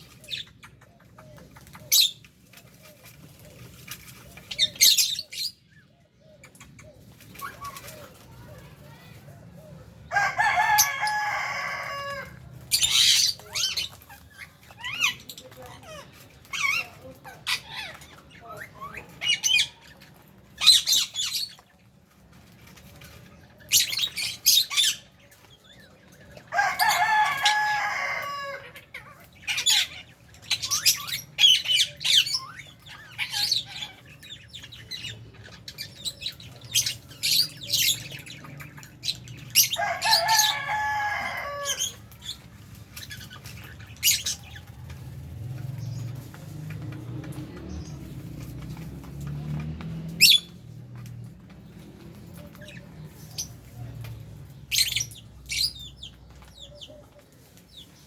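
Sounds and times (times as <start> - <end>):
birds chirping and screeching: 0.0 - 58.0.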